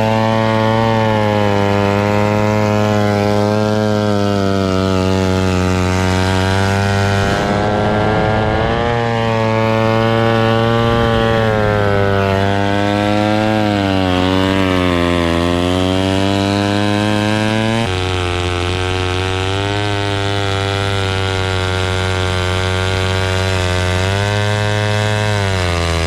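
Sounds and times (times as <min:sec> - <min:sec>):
chainsaw engine running: 0:00.0 - 0:26.0.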